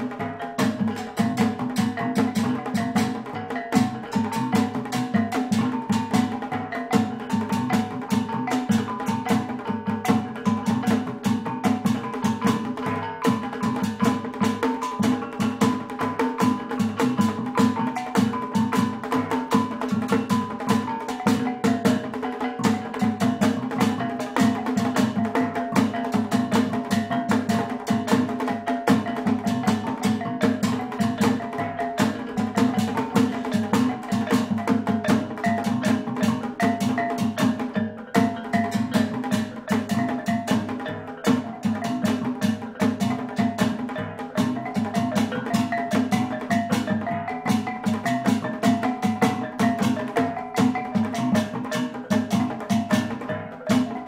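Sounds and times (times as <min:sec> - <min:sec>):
goblet drum beaten with sticks: 0:00.0 - 0:54.0.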